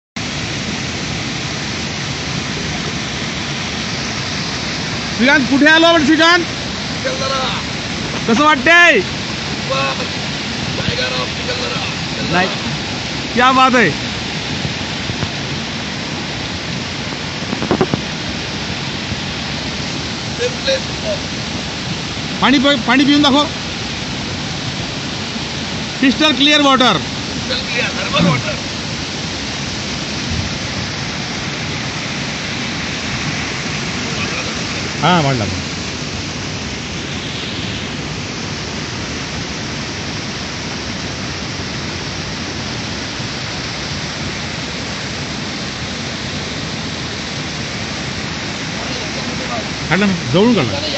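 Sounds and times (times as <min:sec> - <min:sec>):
heavy rain hissing: 0:00.2 - 0:50.9
small waterfall rushing over rocks: 0:00.2 - 0:50.9.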